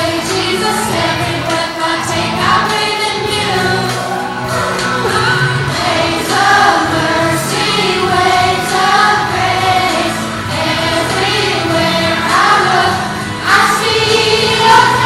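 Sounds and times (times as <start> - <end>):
group of voices singing: 0.0 - 15.0
instrumental backing: 0.0 - 15.0.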